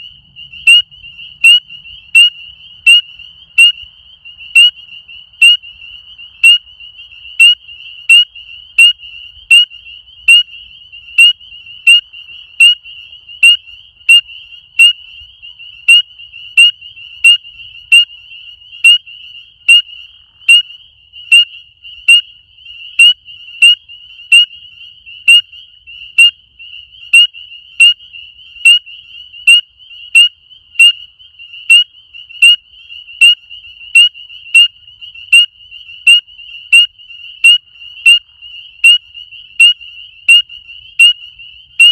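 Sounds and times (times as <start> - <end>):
distant frog chorus: 0.0 - 41.9
frog peeping loudly: 0.0 - 41.9.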